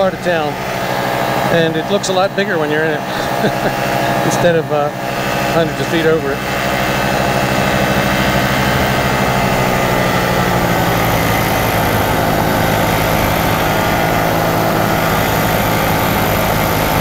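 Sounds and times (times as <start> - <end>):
paramotor engine and propeller running: 0.0 - 17.0.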